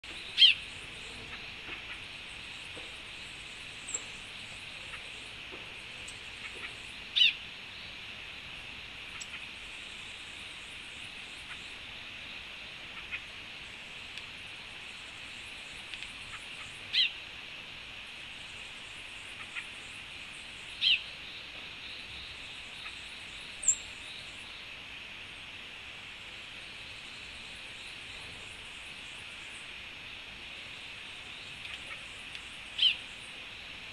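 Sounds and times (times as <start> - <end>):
steady high hiss: 0.0 - 33.9.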